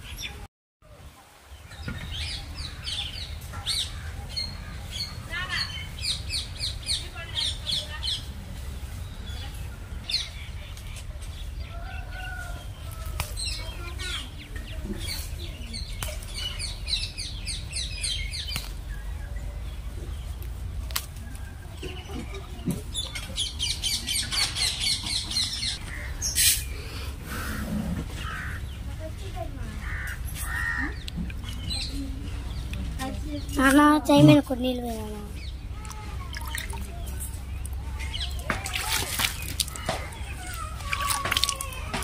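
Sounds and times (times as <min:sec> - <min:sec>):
small birds chirping: 0:01.4 - 0:42.0.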